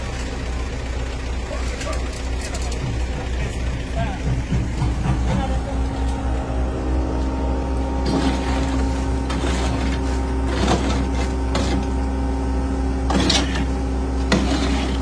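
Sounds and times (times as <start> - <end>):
diesel engine running: 0.0 - 15.0
rake scraping wet concrete: 1.4 - 4.0, 5.4 - 15.0.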